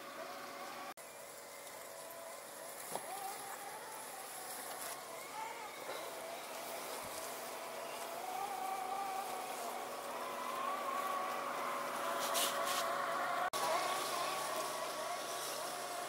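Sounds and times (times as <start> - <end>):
robotic lawn mower motor whine: 0.0 - 16.0.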